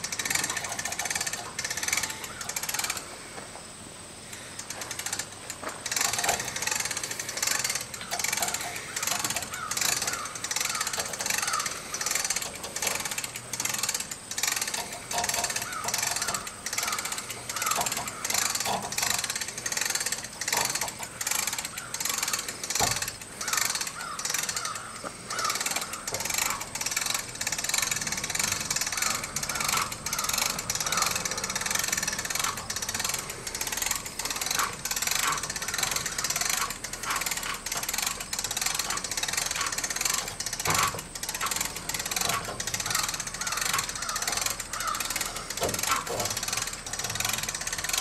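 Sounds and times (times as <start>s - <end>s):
winch ratchet clicking: 0.0s - 48.0s.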